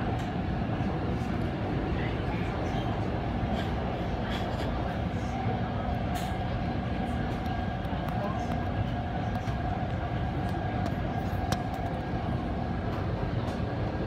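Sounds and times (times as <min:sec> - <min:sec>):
steady hum: 0:00.0 - 0:14.0
train wheels rumbling on rail: 0:00.0 - 0:14.0.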